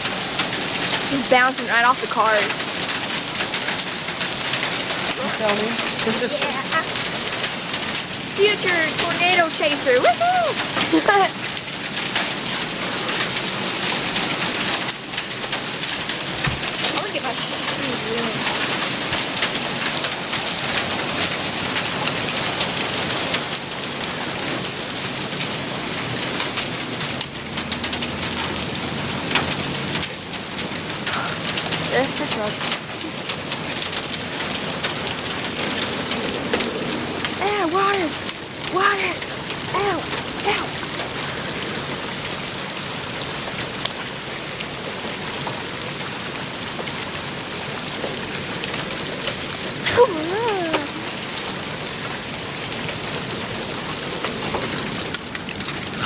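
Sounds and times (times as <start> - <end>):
hailstones striking: 0.0 - 56.0
heavy rain: 0.0 - 56.0.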